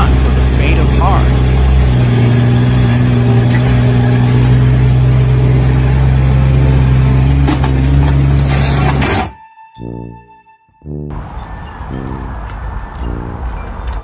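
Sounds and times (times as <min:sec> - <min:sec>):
engine humming steadily: 0:00.0 - 0:09.3, 0:11.1 - 0:14.0.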